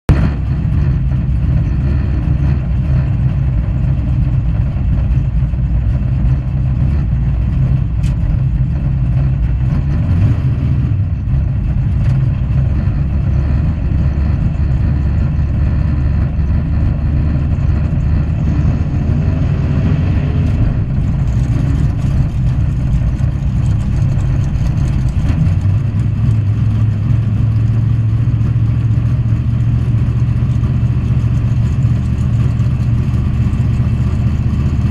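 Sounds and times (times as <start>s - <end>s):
race car engine idling: 0.1s - 34.9s.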